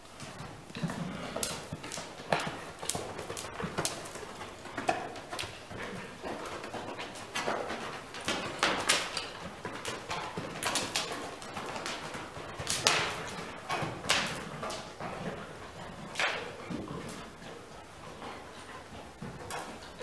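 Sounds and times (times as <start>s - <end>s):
hooves walking on sand: 0.0s - 20.0s.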